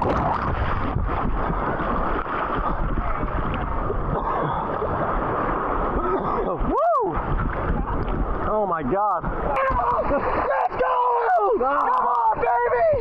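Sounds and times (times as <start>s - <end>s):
water noise: 0.0s - 13.0s
wind rumble on microphone: 0.0s - 13.0s.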